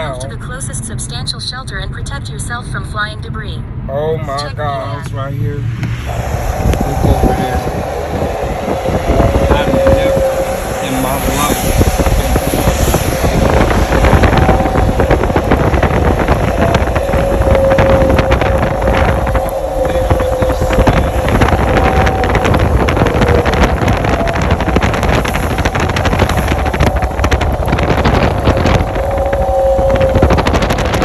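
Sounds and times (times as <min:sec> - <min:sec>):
wind buffeting microphone: 0:00.0 - 0:31.0
vehicle road noise: 0:02.6 - 0:31.0.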